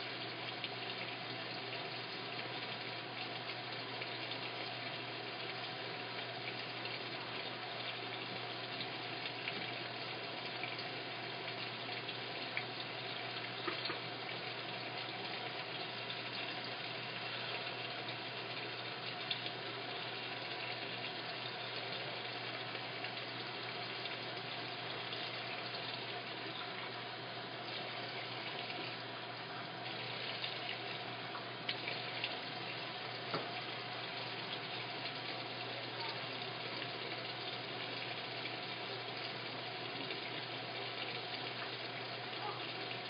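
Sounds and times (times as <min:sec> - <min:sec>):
low steady hum: 0:00.0 - 0:43.0
water rushing into washing machine: 0:00.0 - 0:43.0.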